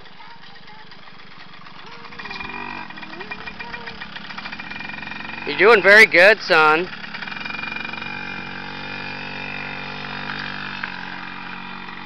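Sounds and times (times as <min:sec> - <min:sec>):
small two-stroke engine running: 0:00.0 - 0:12.0.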